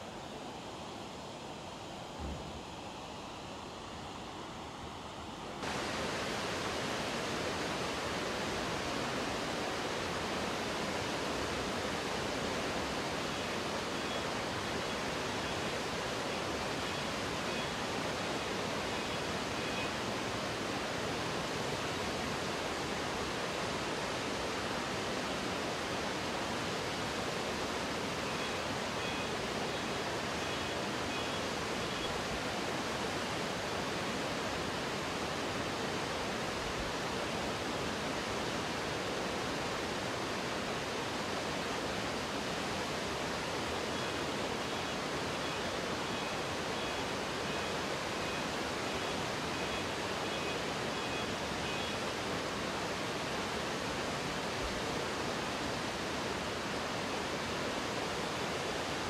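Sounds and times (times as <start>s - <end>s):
fast-flowing water rushing: 0.0s - 59.0s.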